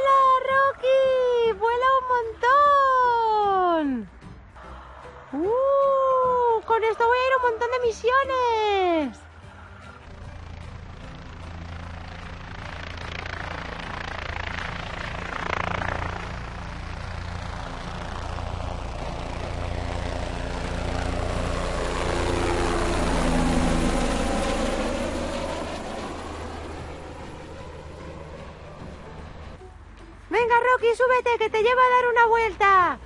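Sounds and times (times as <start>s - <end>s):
helicopter passing overhead: 0.0s - 33.0s.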